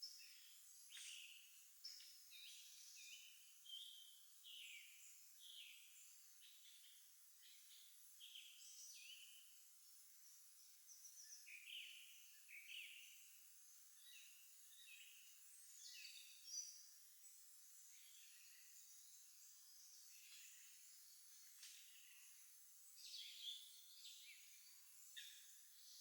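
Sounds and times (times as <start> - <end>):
songbirds chirping: 0.0 - 26.0
light outdoor hiss: 0.1 - 26.0.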